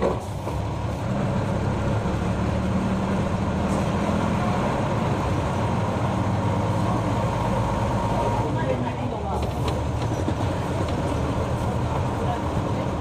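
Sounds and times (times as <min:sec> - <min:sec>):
bus diesel engine droning: 0:00.0 - 0:13.0
road noise: 0:00.0 - 0:13.0.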